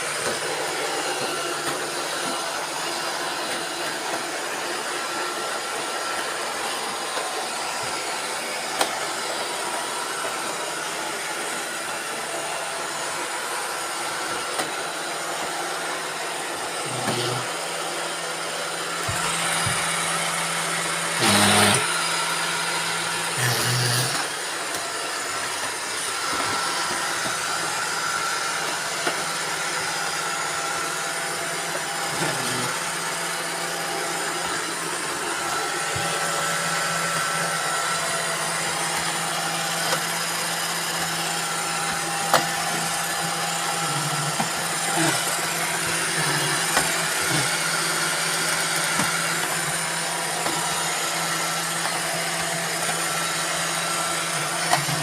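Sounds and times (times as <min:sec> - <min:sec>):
robot vacuum cleaners whirring: 0:00.0 - 0:55.0.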